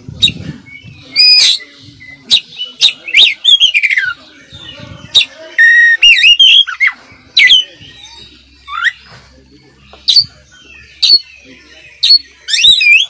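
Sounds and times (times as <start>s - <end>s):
bird singing varied song: 0.0s - 13.0s.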